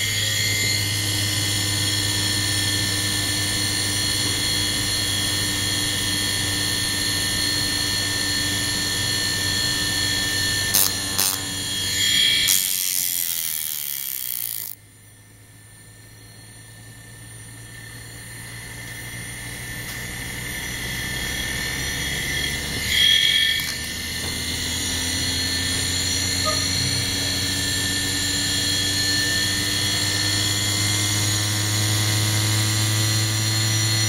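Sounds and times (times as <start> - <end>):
high electronic whine: 0.0 - 34.0
low hum: 0.0 - 34.0.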